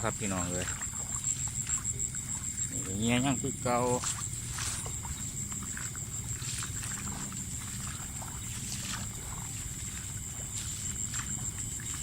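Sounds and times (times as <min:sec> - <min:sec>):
night insects droning: 0:00.0 - 0:12.0
water sloshing and splashing: 0:00.0 - 0:12.0.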